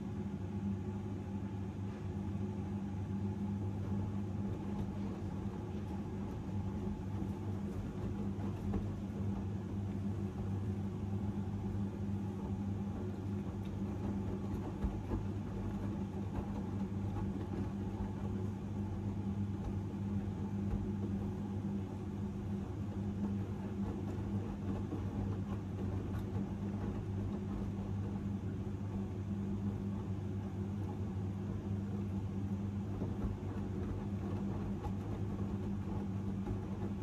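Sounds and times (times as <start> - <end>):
washing machine low hum: 0.0 - 37.0.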